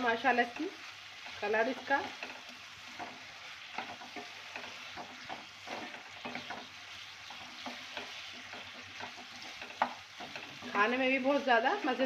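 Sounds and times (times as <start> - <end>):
potatoes sizzling in a pan: 0.0 - 12.0
spatula scraping and tapping pan: 0.2 - 12.0.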